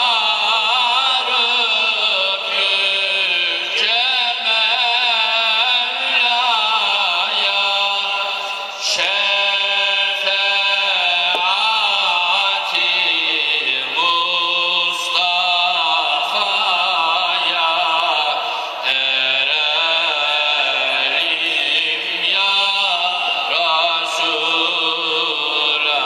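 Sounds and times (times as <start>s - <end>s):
music with chant-like singing: 0.0s - 26.0s.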